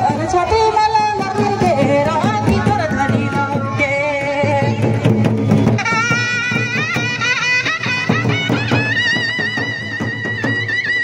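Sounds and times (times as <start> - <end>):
steady drum beats: 0.0 - 11.0.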